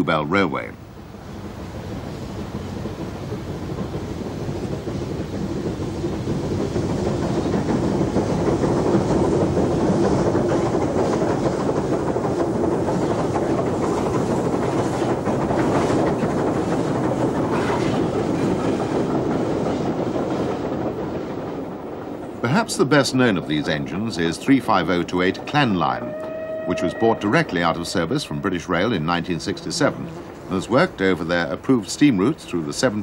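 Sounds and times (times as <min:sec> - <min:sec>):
steam locomotive passing: 0:00.0 - 0:33.0
wheels clicking over rail joints: 0:02.4 - 0:33.0.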